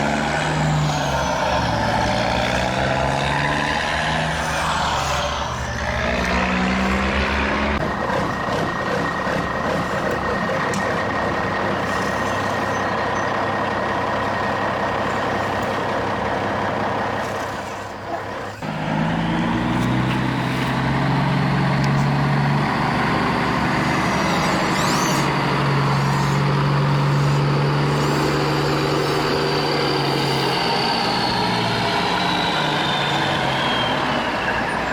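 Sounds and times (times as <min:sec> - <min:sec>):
toy truck engine sound: 0:00.0 - 0:34.9.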